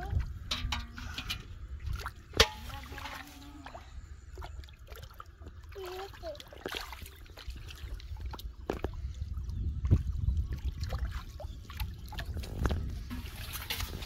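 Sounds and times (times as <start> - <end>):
splashing in shallow water: 0.0 - 14.0.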